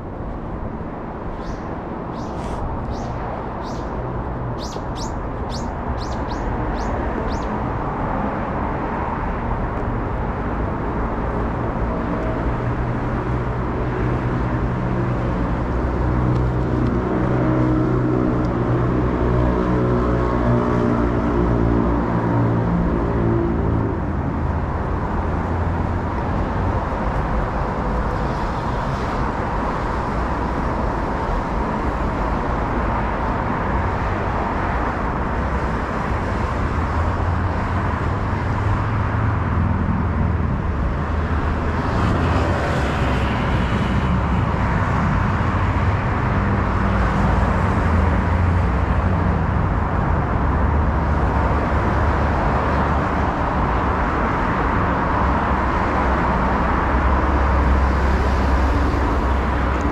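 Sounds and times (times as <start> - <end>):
cars driving on road: 0.0 - 59.9.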